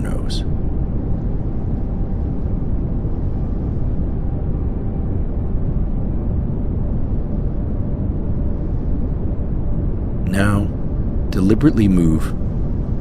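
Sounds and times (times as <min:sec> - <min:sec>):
steady pink noise: 0:00.0 - 0:13.0.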